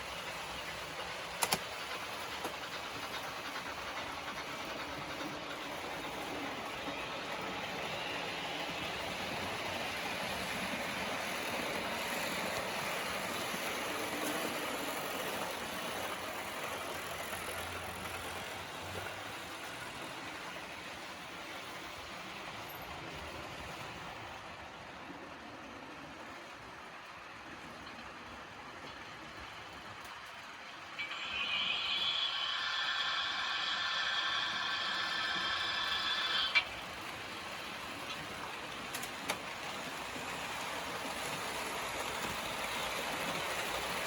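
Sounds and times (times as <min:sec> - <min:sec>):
model train rolling on track: 0:00.0 - 0:44.0.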